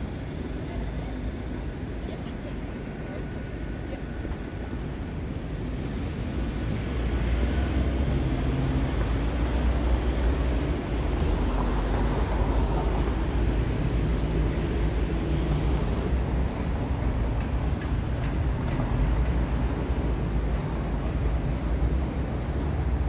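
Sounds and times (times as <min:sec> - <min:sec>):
city street traffic: 0:00.0 - 0:23.0
heavy vehicle engine running: 0:00.0 - 0:23.0.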